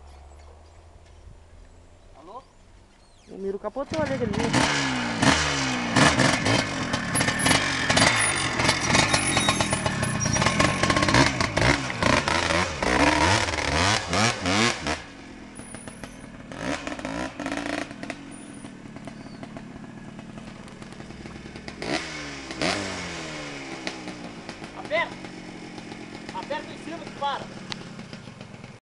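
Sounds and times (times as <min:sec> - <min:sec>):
motorcycle engines revving: 0:03.3 - 0:28.8
clatter: 0:04.0 - 0:22.9, 0:23.7 - 0:28.8.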